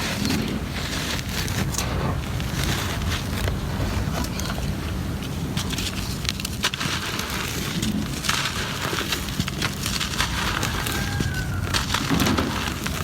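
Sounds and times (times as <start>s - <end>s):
cement crumbling and crackling: 0.0s - 13.0s
steady low rumble: 0.0s - 13.0s.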